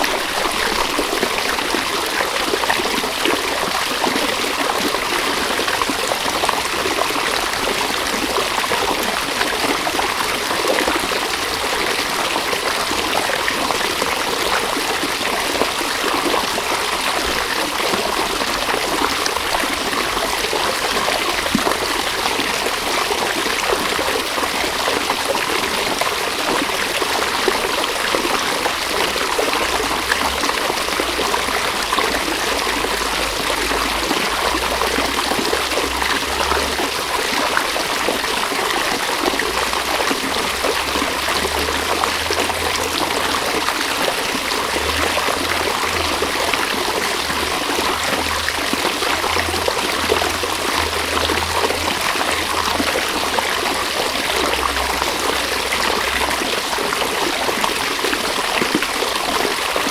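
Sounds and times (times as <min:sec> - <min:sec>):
river water rushing and trickling: 0:00.0 - 0:59.9.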